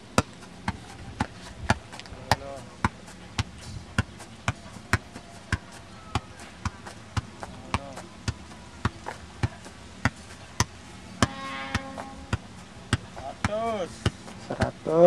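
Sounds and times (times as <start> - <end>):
ball impacts: 0.0 - 14.8.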